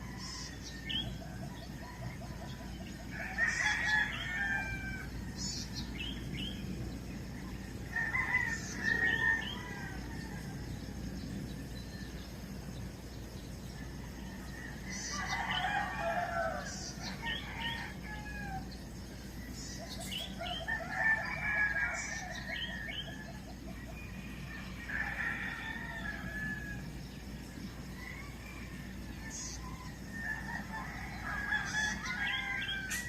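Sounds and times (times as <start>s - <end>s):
roosters crowing: 0.0s - 11.7s, 13.7s - 33.0s.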